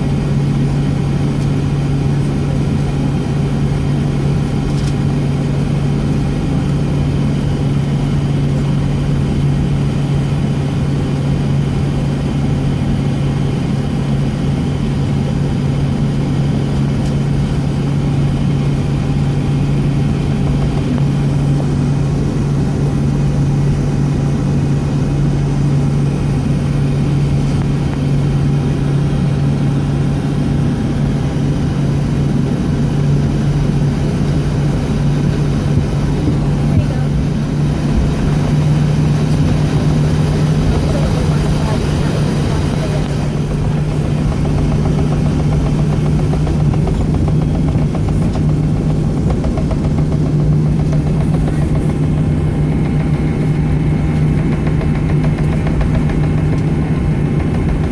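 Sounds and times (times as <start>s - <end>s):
aircraft cabin drone: 0.0s - 57.9s.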